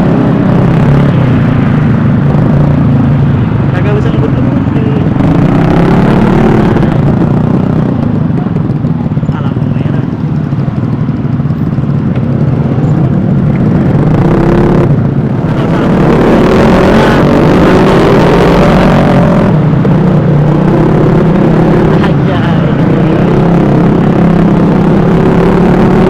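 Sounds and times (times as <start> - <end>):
scooter engine running: 0.0 - 26.0
wind noise on microphone: 0.0 - 26.0.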